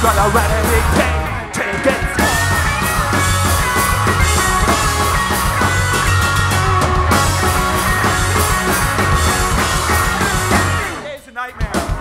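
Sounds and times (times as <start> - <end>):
bass guitar: 0.0 - 12.0
drum kit: 0.0 - 12.0
electric guitar: 0.0 - 12.0.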